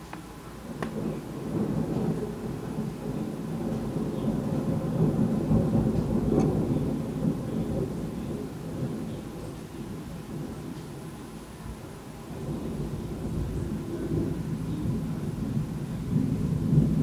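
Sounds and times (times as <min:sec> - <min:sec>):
rolling thunder: 0:00.6 - 0:17.0.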